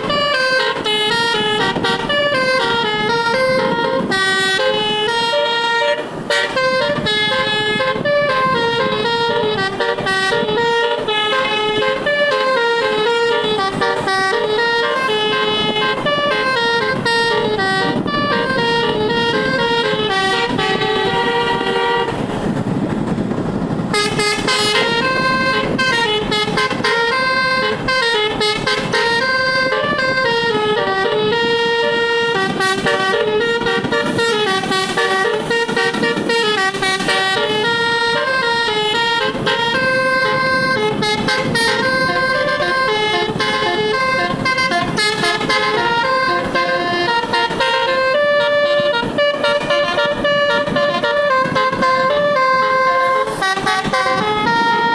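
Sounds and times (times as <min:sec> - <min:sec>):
bus air horns playing melody: 0:00.0 - 0:54.9
engine noise: 0:00.0 - 0:54.9
road noise: 0:00.0 - 0:54.9.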